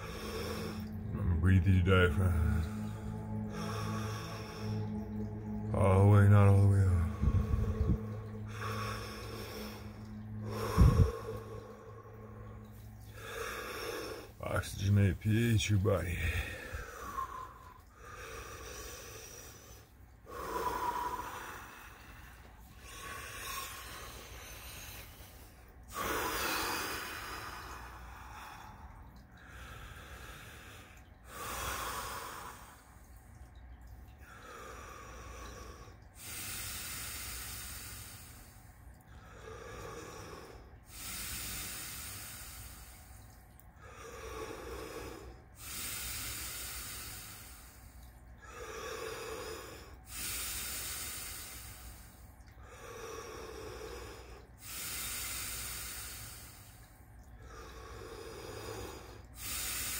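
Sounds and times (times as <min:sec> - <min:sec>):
man breathing deeply: 0:00.0 - 0:01.1, 0:01.9 - 0:05.7, 0:06.8 - 0:14.4, 0:16.2 - 0:32.9, 0:34.2 - 0:59.9.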